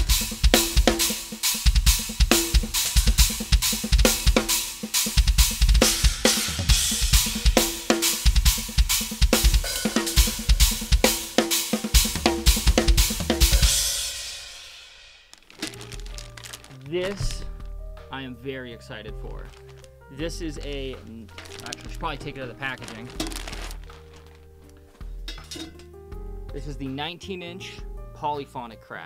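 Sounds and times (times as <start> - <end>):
drum kit groove: 0.0 - 18.3, 19.2 - 27.0.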